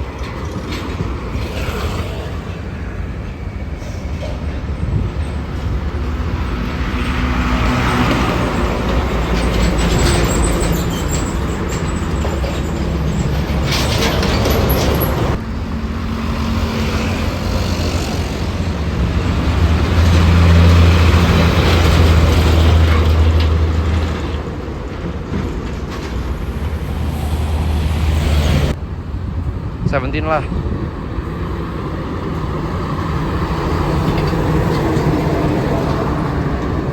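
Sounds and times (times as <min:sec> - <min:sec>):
large vehicle engines running: 0:00.0 - 0:31.1
road traffic: 0:00.0 - 0:36.9.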